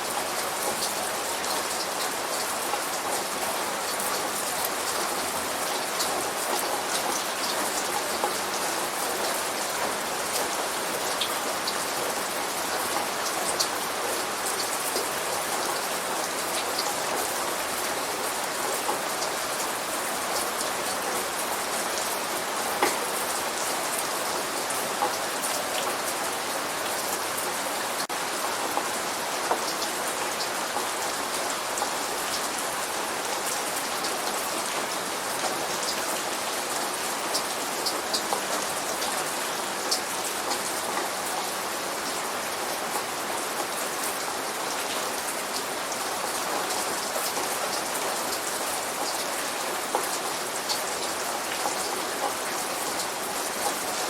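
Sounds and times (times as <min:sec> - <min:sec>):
light rain hiss: 0:00.0 - 0:54.0.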